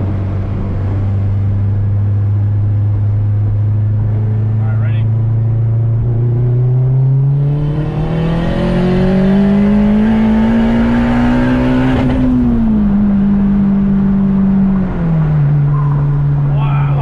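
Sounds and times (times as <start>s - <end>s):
car engine revving at full throttle: 0.0s - 17.0s.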